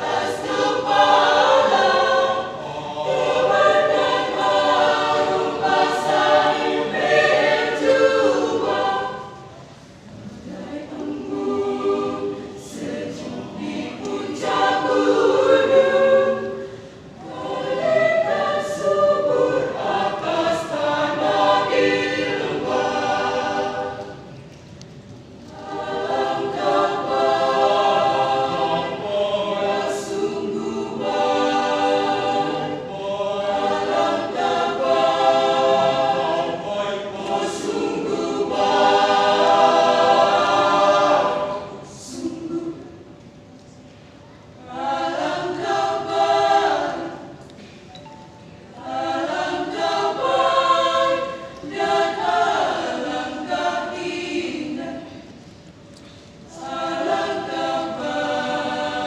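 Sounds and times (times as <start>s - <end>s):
church choir singing: 0.0s - 24.6s, 25.4s - 59.0s.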